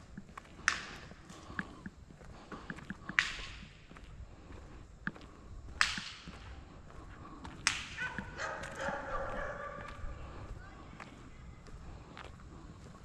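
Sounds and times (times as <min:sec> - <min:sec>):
soft footsteps: 0:00.0 - 0:13.0.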